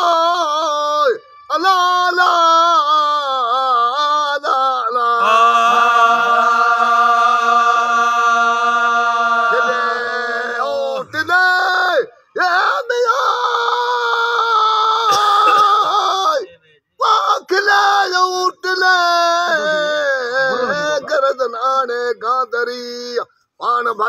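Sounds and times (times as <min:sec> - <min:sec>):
man singing unaccompanied: 0:00.0 - 0:24.0.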